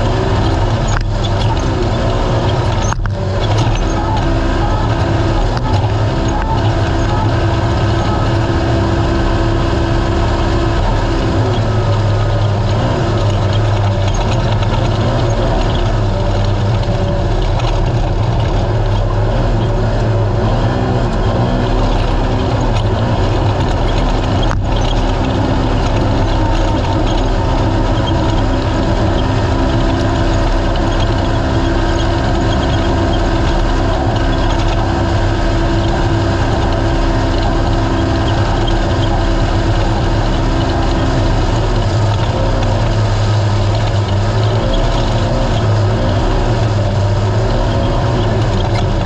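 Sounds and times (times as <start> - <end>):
engine running under power: 0.0 - 49.0
rush of ride noise: 0.0 - 49.0.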